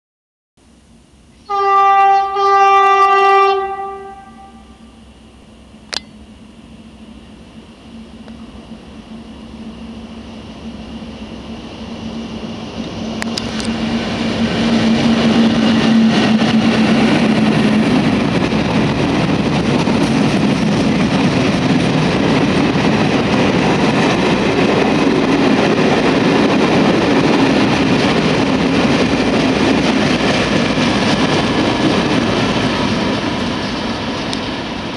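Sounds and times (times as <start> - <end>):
diesel locomotive engine: 0.6 - 34.9.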